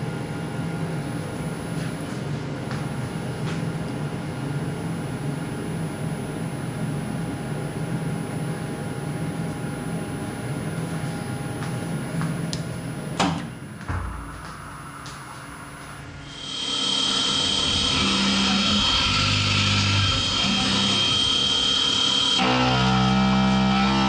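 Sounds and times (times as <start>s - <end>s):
milling machine humming: 4.0s - 24.0s.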